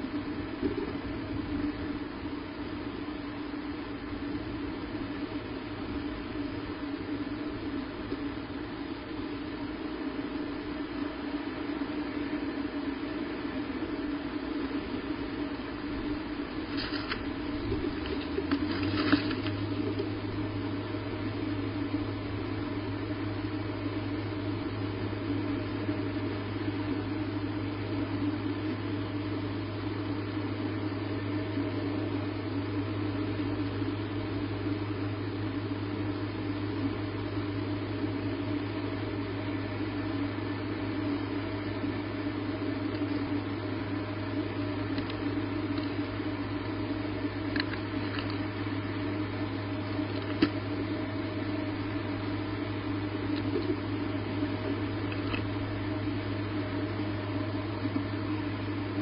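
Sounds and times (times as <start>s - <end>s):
electrical hum with hiss: 0.0s - 59.0s.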